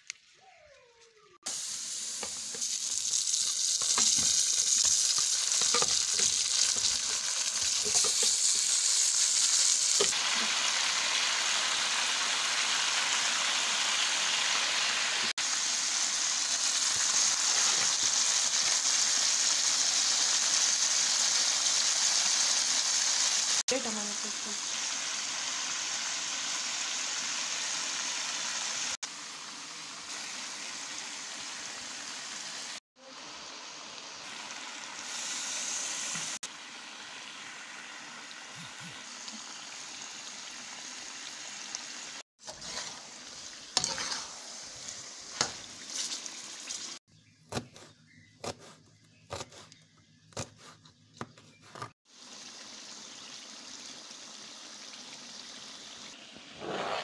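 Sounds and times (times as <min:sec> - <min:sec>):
chicken sizzling in oil: 0:01.4 - 0:47.1, 0:52.0 - 0:57.0.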